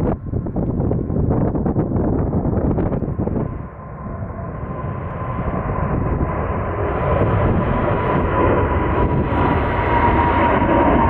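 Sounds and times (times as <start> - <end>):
jet airliner engines at takeoff: 0.0 - 11.0.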